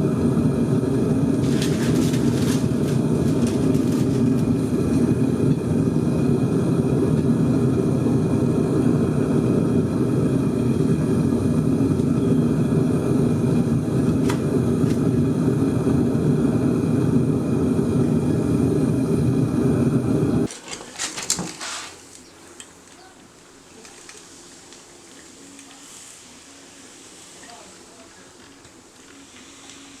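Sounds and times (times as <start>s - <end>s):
furnace burner rushing and humming: 0.0s - 30.0s.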